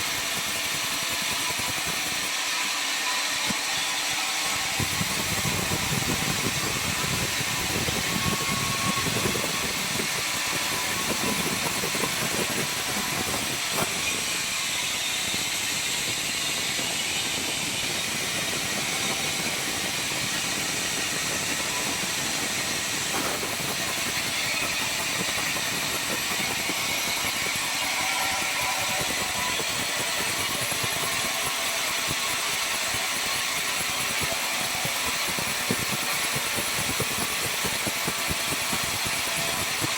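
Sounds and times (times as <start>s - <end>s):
circular saw machine running: 0.0s - 39.9s.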